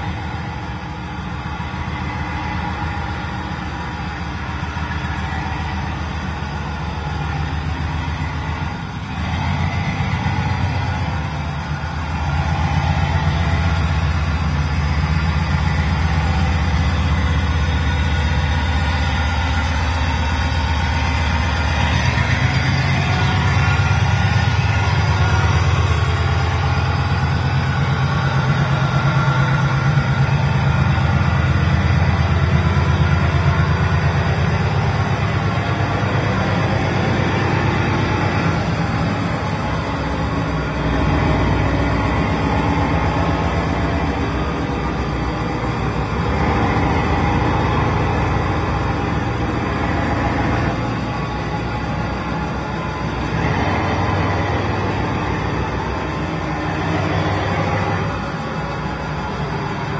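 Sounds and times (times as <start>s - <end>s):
locomotive engine rumbling: 0.0s - 59.9s.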